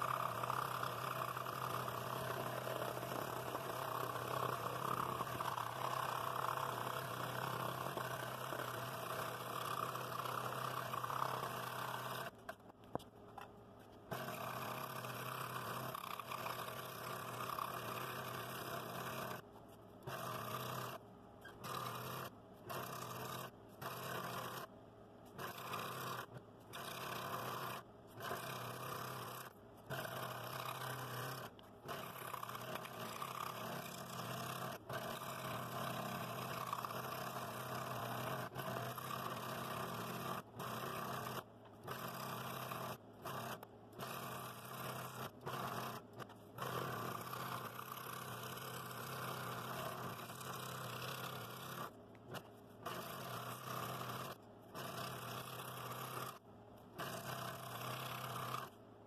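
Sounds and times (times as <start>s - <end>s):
scroll saw cutting wood: 0.0s - 58.8s.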